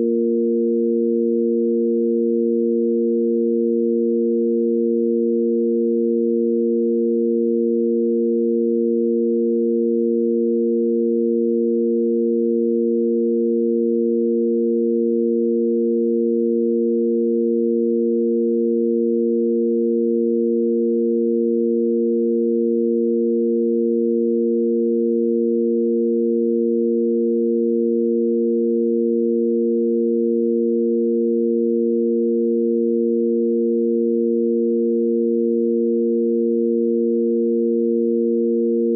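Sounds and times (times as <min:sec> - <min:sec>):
steady sine tone drone: 0:00.0 - 0:38.9.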